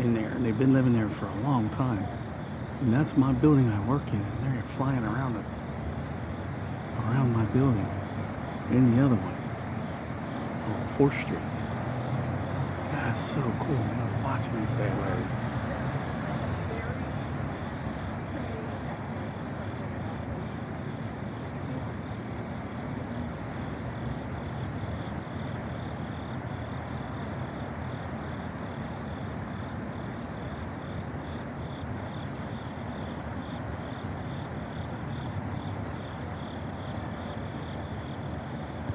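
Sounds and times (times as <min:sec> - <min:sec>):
traffic rumble: 0:00.0 - 0:38.9.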